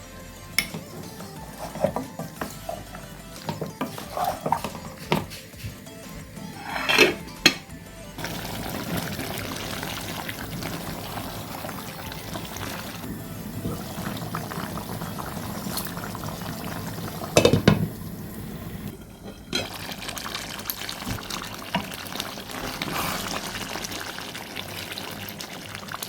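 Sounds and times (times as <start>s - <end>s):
curry bubbling and sizzling: 0.5s - 26.0s.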